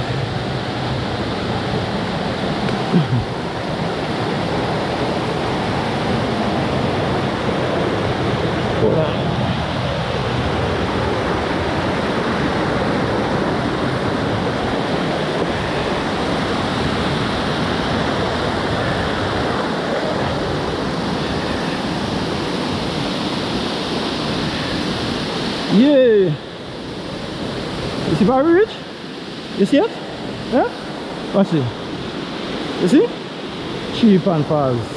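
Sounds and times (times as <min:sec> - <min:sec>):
running water rushing: 0:00.0 - 0:34.9.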